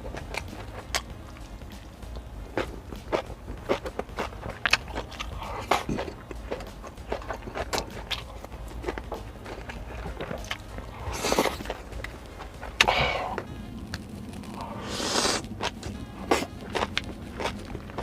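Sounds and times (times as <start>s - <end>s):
steady low hum: 0.0s - 18.0s
wet chewing and smacking: 0.0s - 18.0s.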